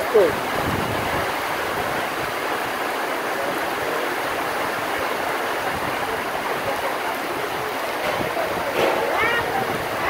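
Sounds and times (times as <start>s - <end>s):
heavy rain pouring: 0.0s - 10.0s
runoff water splashing: 0.0s - 10.0s.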